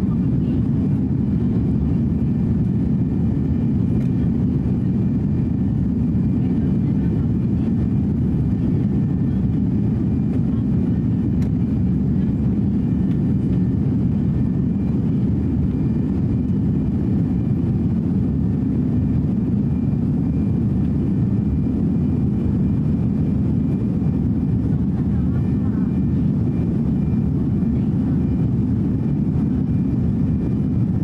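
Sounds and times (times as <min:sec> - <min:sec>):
jet engine cabin rumble: 0:00.0 - 0:31.0.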